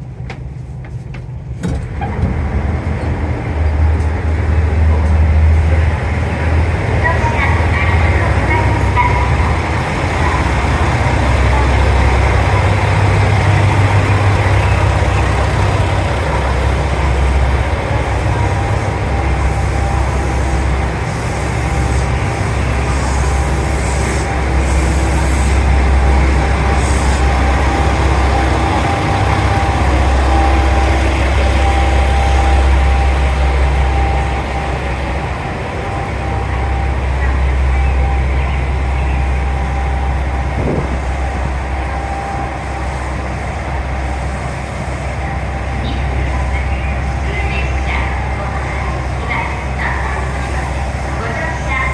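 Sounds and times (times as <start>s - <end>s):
diesel railcar engine and rail rumble: 0.0s - 51.9s.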